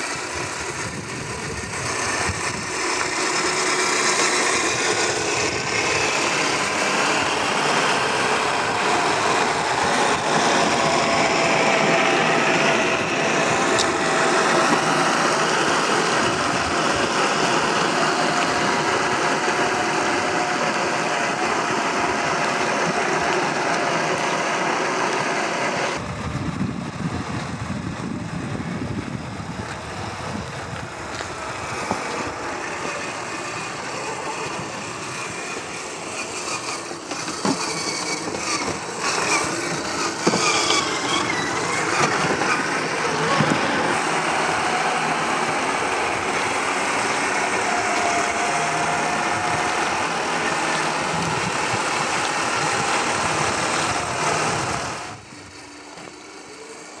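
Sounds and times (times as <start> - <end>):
electric motor and gear whine: 0.0 - 57.0
tyres on loose ground: 0.0 - 57.0.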